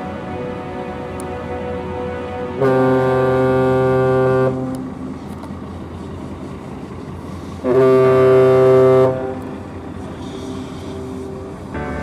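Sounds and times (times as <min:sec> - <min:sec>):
deep ship horn blasts: 0:00.0 - 0:05.4, 0:07.6 - 0:12.0.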